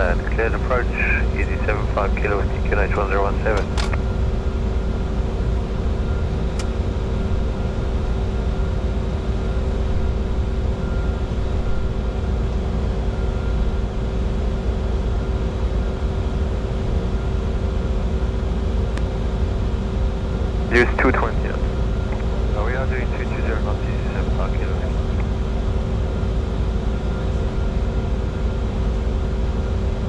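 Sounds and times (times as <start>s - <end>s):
faint steady hum: 0.0s - 19.0s, 20.6s - 30.0s
rumble of airflow and engines: 0.0s - 30.0s.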